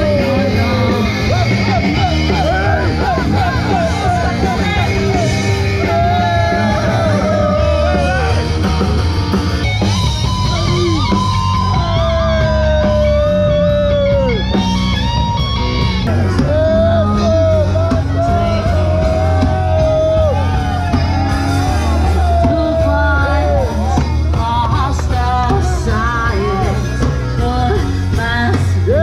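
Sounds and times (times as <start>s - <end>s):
bass line: 0.0s - 29.0s
guitar melody with bending notes: 0.0s - 29.0s.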